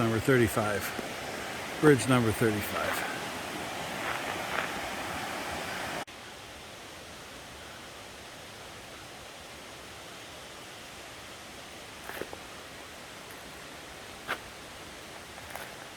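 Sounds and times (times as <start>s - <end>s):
creek water rushing: 0.0s - 15.9s.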